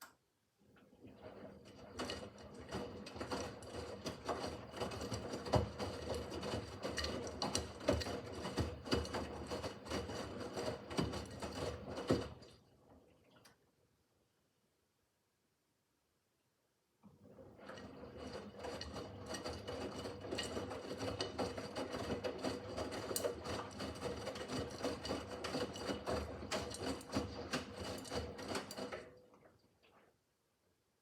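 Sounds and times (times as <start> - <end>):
washing machine motor hum: 0.6 - 13.9, 17.0 - 30.2.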